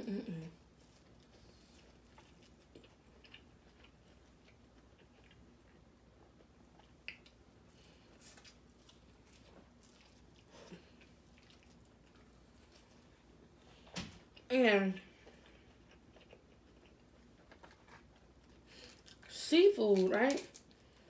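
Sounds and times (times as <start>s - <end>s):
person chewing: 0.6s - 13.4s, 15.1s - 19.3s.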